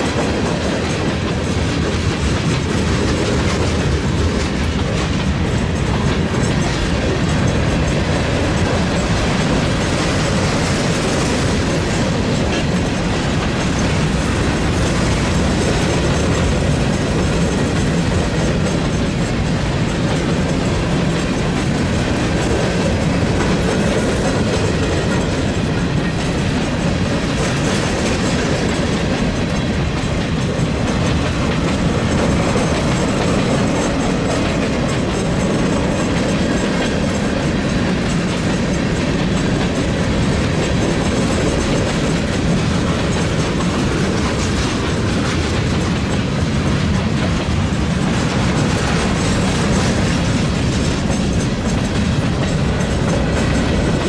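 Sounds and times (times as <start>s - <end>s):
train cars rolling on rails: 0.0s - 54.0s.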